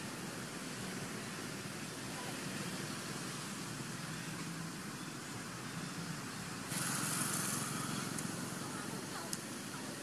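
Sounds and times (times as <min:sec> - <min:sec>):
even hiss: 0:00.0 - 0:10.0.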